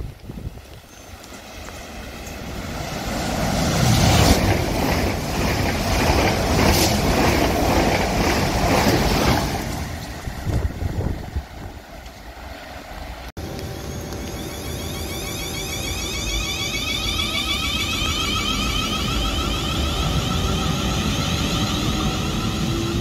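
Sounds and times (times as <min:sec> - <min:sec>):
electric train passing rushing: 0:00.4 - 0:23.0.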